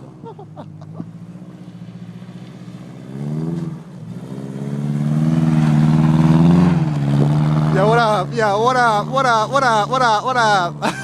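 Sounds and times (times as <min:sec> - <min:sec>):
car engine revving hard: 0:01.2 - 0:11.0.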